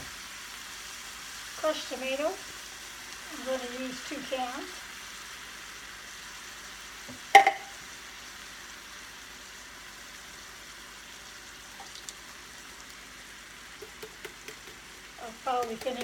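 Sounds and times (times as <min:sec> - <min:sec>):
ground beef sizzling in a pot: 0:00.0 - 0:16.0.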